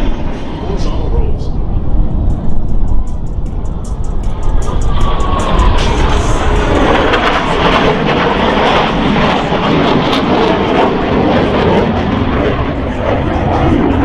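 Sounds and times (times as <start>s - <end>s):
jets passing overhead: 0.0s - 14.0s.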